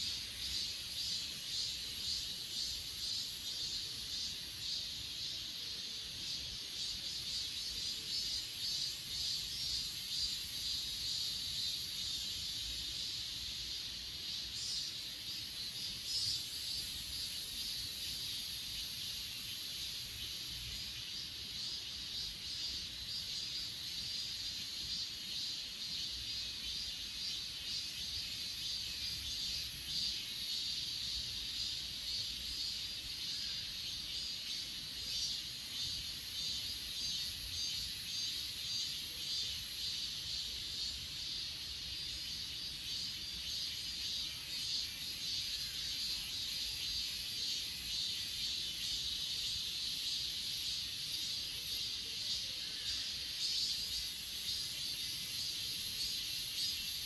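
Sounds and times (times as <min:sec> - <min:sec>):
crickets chirping: 0:00.0 - 0:57.0
high-pitched insect song: 0:00.0 - 0:57.0.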